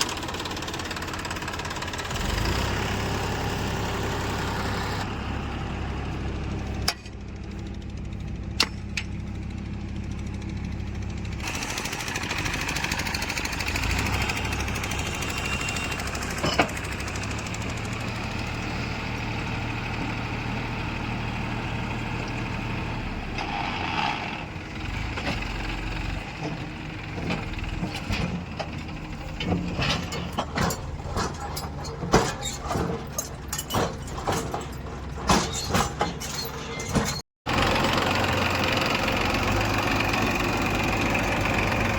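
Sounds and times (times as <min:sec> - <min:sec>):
diesel engines running: 0:00.0 - 0:41.9.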